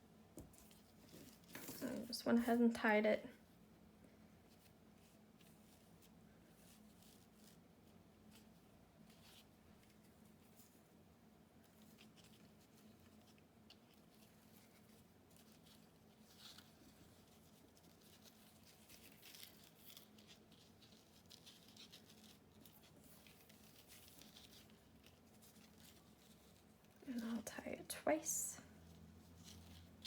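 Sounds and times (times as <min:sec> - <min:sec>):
ribbon rustling: 0:00.3 - 0:02.7, 0:03.4 - 0:30.0.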